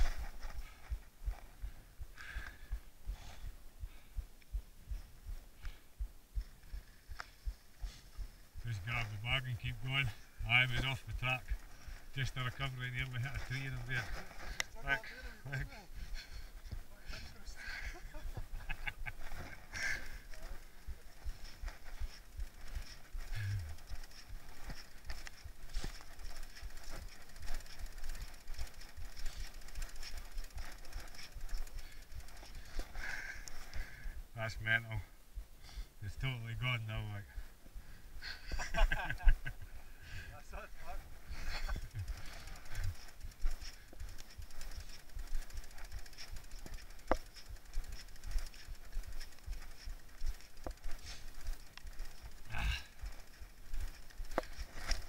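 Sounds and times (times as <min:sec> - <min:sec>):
mountain bike rattling on rough trail: 0:00.0 - 0:03.5, 0:06.4 - 0:35.1, 0:36.1 - 0:55.0.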